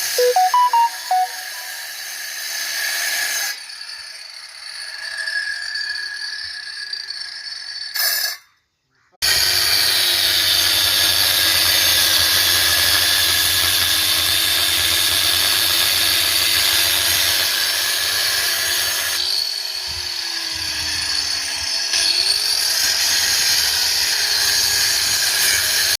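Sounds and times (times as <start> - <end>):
electric drill cutting into wall: 2.4 - 8.4, 9.3 - 26.0.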